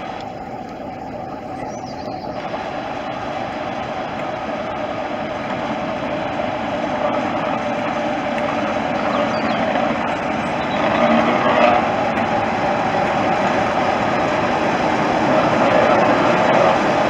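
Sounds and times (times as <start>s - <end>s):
diesel locomotive running past: 0.0s - 17.0s.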